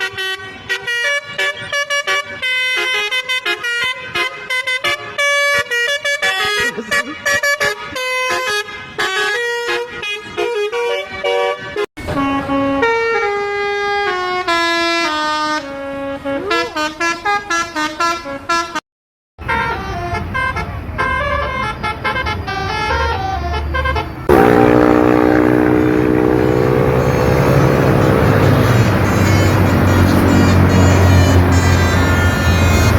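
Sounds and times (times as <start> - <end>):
multi-tone bus horns: 0.0 - 18.8, 19.4 - 32.9.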